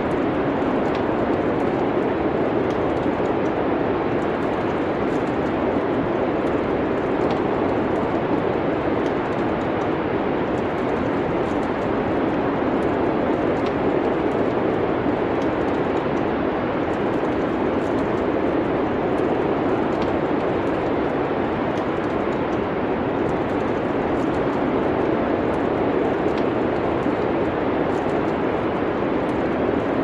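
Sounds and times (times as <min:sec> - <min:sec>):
low wind noise: 0:00.0 - 0:30.0
wood fire crackling: 0:00.0 - 0:30.0.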